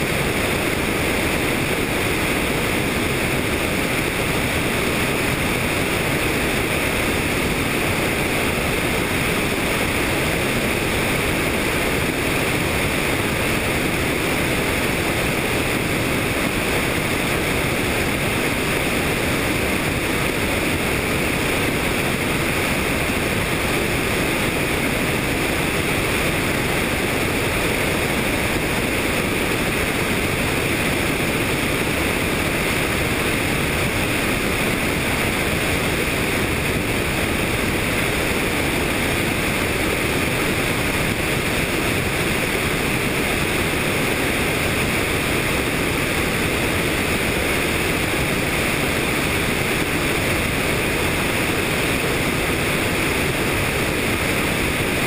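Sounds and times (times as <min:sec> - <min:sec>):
helicopter in flight: 0:00.0 - 0:55.0.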